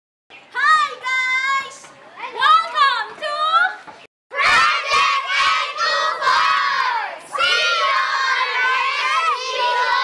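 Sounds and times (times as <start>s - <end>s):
children shouting and cheering: 0.5s - 3.7s, 4.3s - 10.0s.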